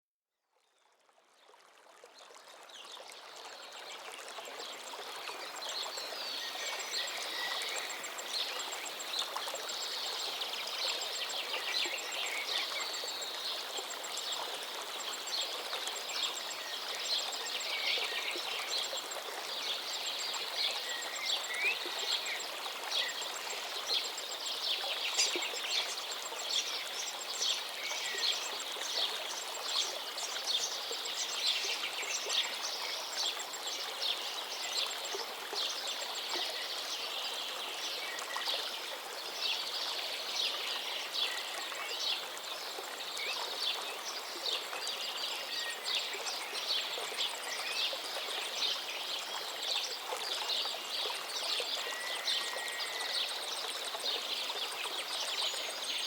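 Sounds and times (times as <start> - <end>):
river water flowing: 0.8 - 56.0.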